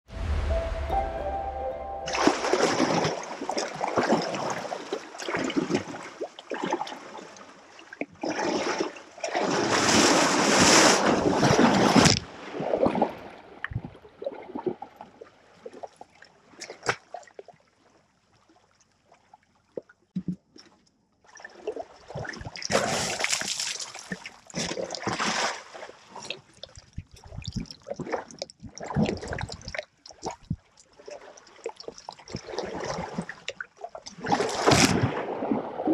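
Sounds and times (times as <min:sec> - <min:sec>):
water splashing and sloshing: 0:00.1 - 0:35.9.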